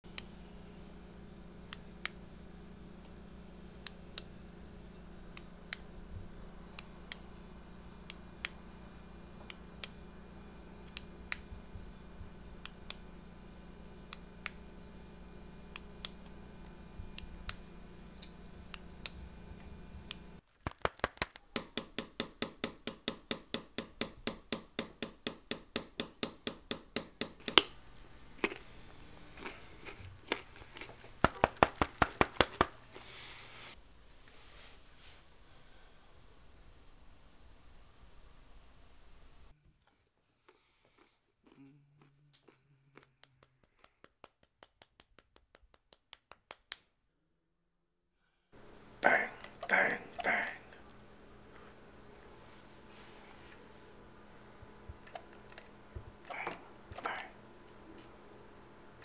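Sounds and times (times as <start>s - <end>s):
steady low hum: 0.1s - 20.4s, 21.5s - 39.7s, 48.5s - 59.0s.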